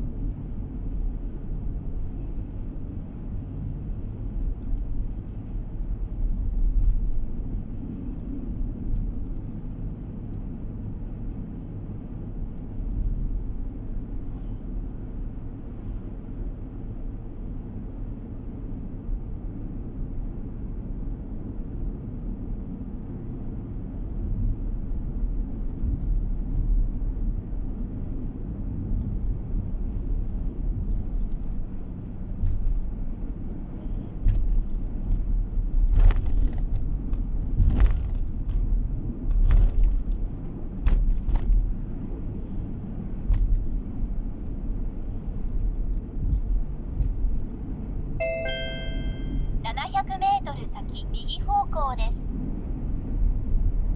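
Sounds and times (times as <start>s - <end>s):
car driving rumble from inside: 0.0s - 48.2s.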